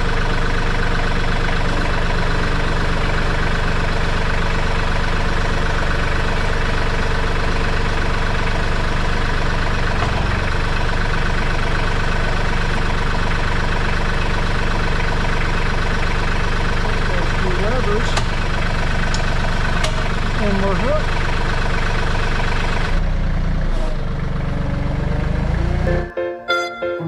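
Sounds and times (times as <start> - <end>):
tractor engine idling: 0.0 - 27.0.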